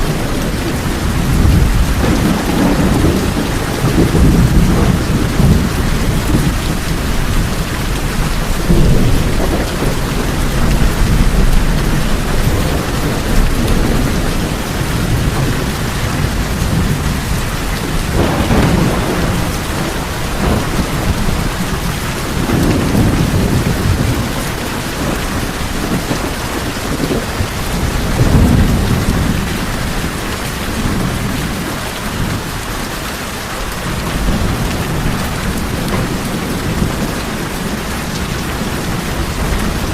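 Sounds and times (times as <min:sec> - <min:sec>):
heavy rain on tin roofs: 0:00.0 - 0:39.9
thunder rumbling: 0:00.0 - 0:39.9.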